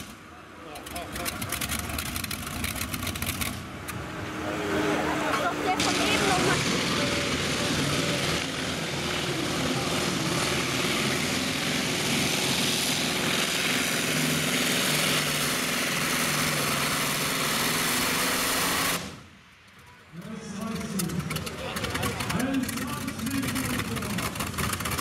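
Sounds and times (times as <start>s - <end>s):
tractor engine running hard: 0.0s - 19.3s, 20.3s - 25.0s.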